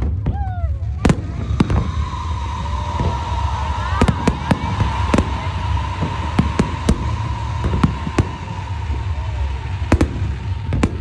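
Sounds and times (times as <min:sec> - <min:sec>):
fireworks bangs and pops: 0:00.0 - 0:11.0
low rumble: 0:00.0 - 0:11.0.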